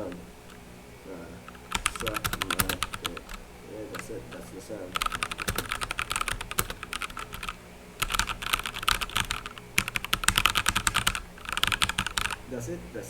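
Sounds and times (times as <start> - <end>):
mechanical keyboard typing: 1.5 - 12.4.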